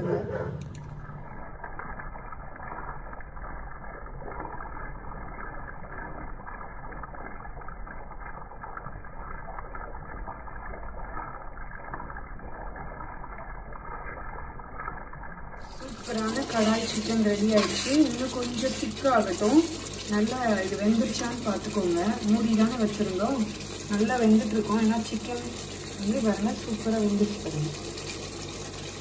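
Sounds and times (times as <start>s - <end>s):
gravy bubbling: 0.0s - 29.0s.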